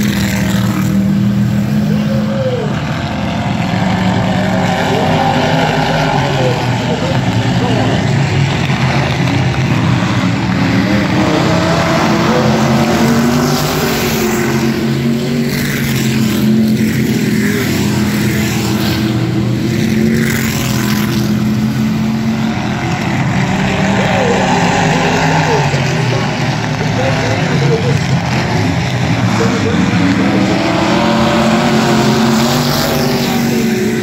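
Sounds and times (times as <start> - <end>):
race car engines droning: 0.0 - 34.0.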